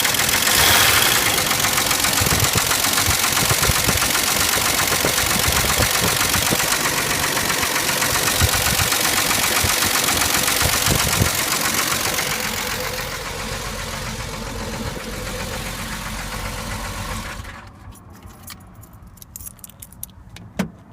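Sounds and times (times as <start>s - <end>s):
engine running with deep knock: 0.0s - 17.5s.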